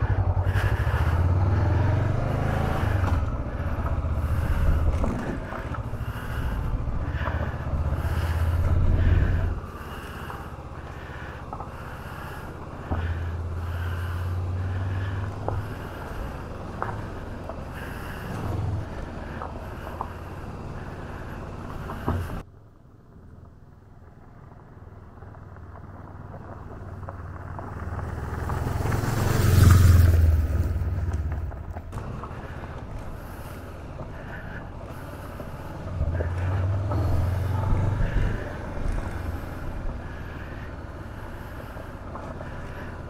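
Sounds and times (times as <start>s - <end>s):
motorcycle engine droning: 0.0s - 22.4s, 23.1s - 43.0s.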